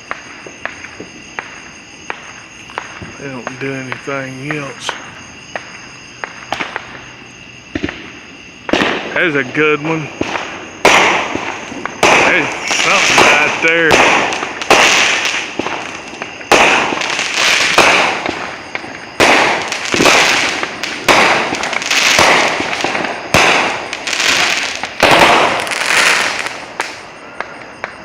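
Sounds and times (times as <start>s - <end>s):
fireworks banging and crackling: 0.0s - 28.0s.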